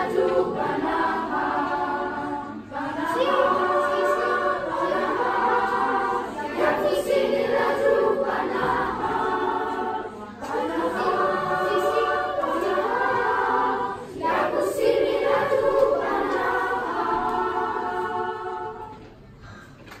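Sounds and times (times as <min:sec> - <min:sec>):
choir singing in parts: 0:00.0 - 0:19.4.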